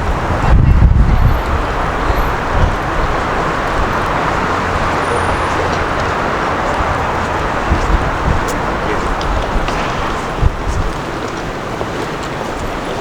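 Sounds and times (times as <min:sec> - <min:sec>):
road traffic going by: 0:00.0 - 0:13.0.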